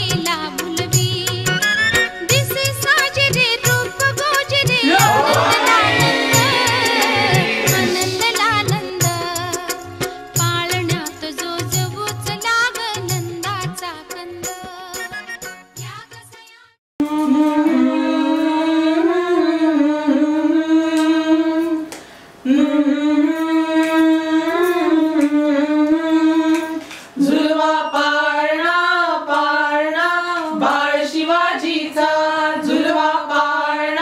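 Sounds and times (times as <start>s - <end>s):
women singing unaccompanied: 2.3s - 9.8s, 10.4s - 34.0s.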